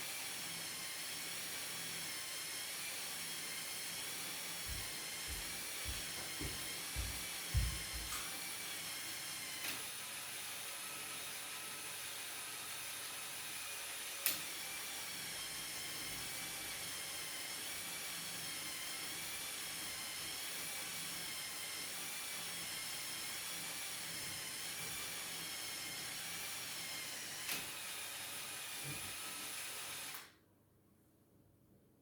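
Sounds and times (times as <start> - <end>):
small electric motor whining: 0.0 - 30.3.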